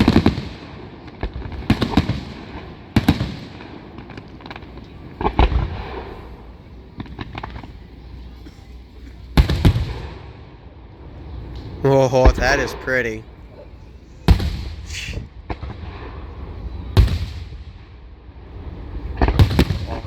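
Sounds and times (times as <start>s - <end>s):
firework crackling pops: 0.0s - 10.4s, 14.3s - 20.0s
firework shells booming: 0.0s - 20.0s.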